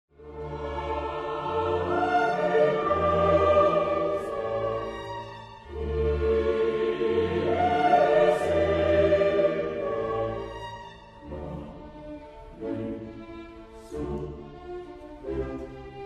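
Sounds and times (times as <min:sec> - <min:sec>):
slow orchestral music with choir: 0:00.1 - 0:16.0.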